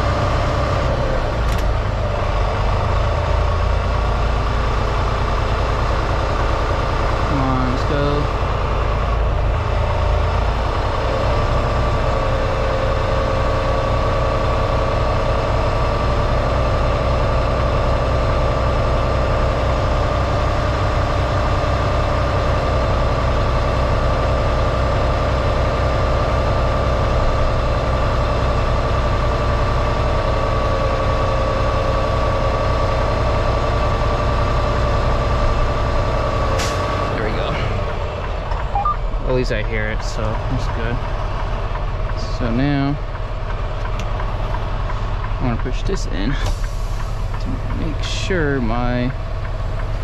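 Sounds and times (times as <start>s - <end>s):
truck diesel engine idling: 0.0s - 50.0s.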